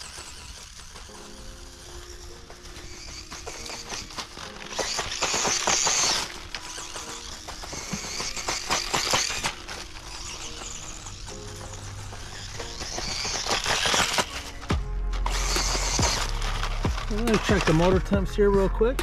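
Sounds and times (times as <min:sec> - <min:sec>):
rc buggy motor and tyres: 0:00.0 - 0:19.0
soft background music: 0:00.0 - 0:19.0.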